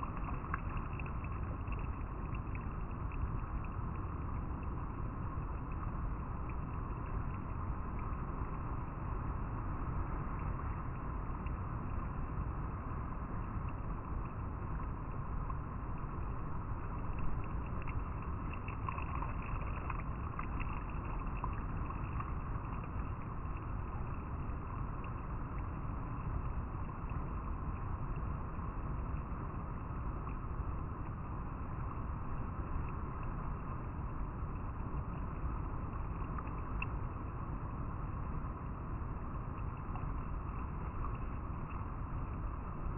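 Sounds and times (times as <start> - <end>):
river water flowing over rocks: 0.0 - 42.9.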